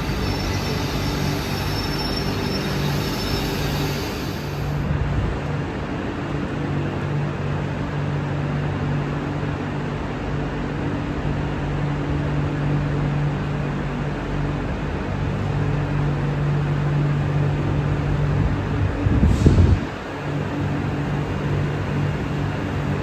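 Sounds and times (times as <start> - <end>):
train machinery humming: 0.0 - 7.0, 9.8 - 23.0.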